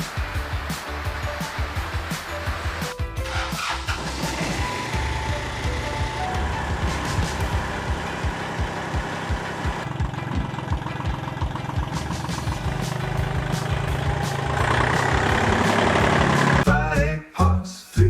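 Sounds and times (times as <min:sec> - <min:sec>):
old tractor engine running: 0:00.0 - 0:16.6.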